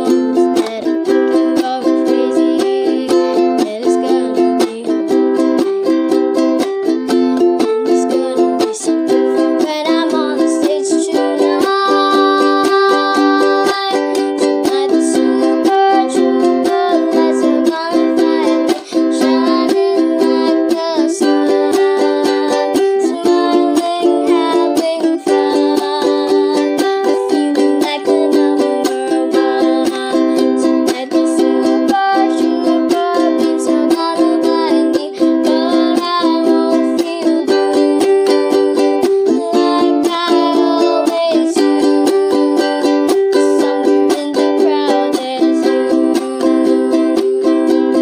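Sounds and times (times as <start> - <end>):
child singing: 0.0 - 48.0
ukulele strumming: 0.0 - 48.0.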